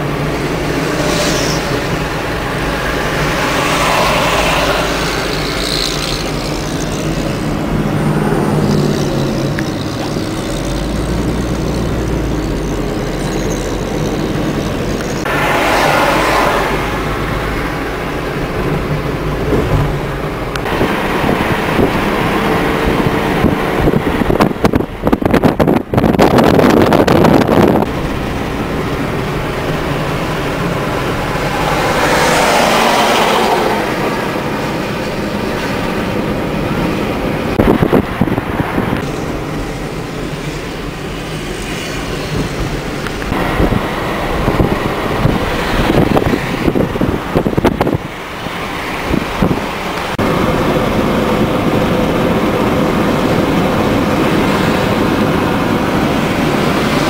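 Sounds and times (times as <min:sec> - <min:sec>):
road and wind noise inside car: 0:00.0 - 0:57.0.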